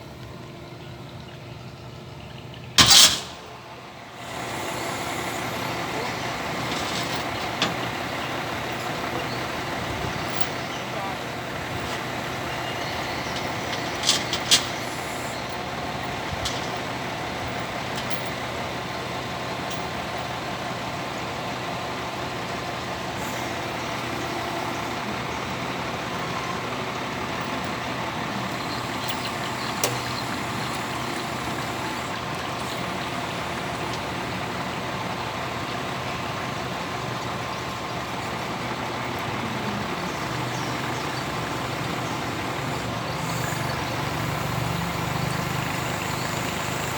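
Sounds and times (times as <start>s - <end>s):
excavator engine running: 0.0s - 46.9s.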